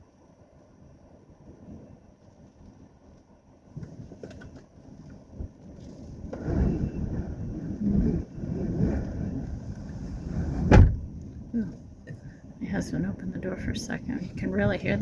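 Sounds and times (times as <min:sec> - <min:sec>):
gusting storm wind: 0:00.0 - 0:15.0.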